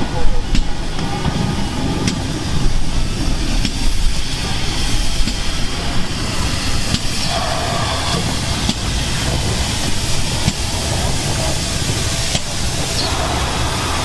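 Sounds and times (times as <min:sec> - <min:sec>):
steam locomotive rumbling past: 0:00.0 - 0:14.0.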